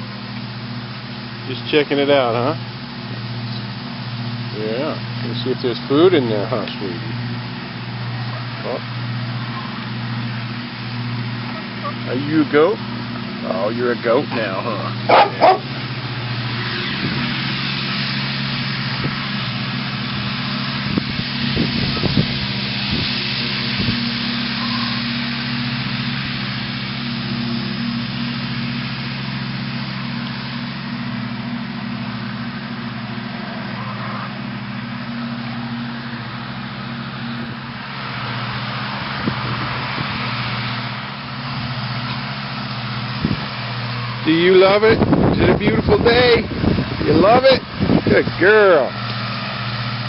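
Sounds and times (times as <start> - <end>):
tractor engine droning: 0.0 - 50.0.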